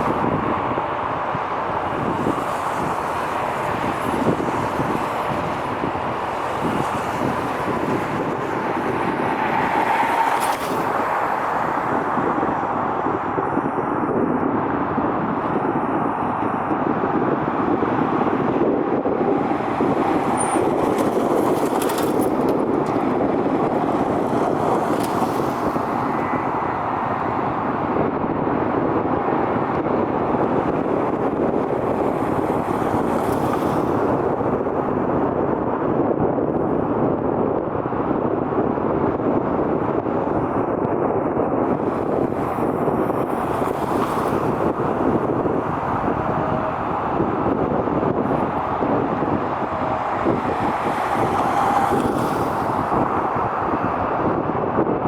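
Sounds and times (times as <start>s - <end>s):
vehicle noise rushing: 0.0s - 55.0s.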